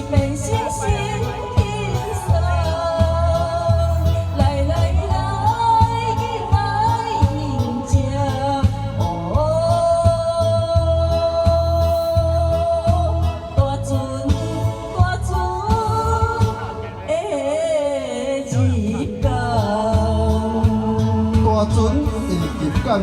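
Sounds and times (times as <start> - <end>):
backing track with steady beat: 0.0 - 23.0
person singing: 0.0 - 23.0.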